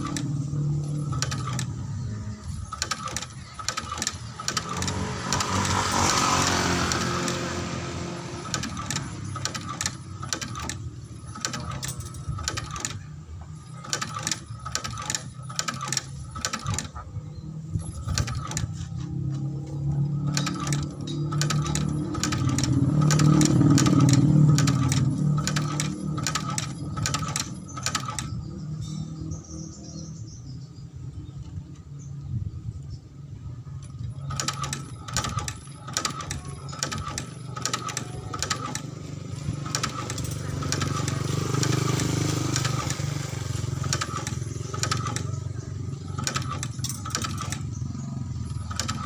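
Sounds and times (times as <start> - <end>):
stitching machine motor hum: 0.0 - 17.0, 17.6 - 28.8, 33.8 - 49.0
stitching mechanism clicks: 0.0 - 17.0, 17.8 - 28.5, 33.8 - 49.0.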